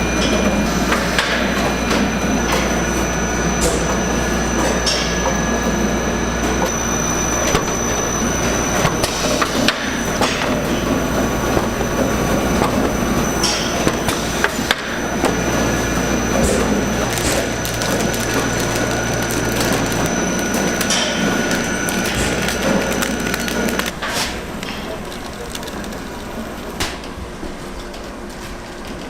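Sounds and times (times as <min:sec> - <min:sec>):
busy kitchen roar: 0:00.0 - 0:29.0.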